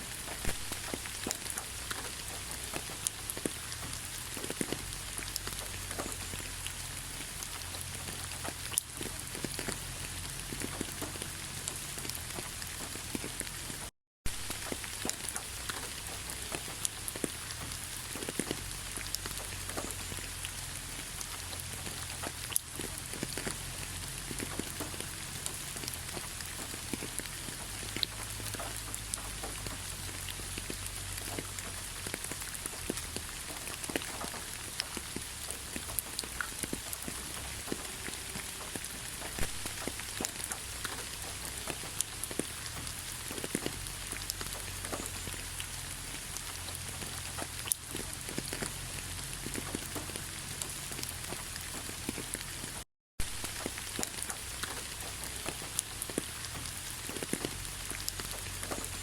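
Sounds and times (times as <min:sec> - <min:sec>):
steady rain hiss: 0:00.0 - 0:59.0
raindrop taps: 0:00.1 - 0:59.0.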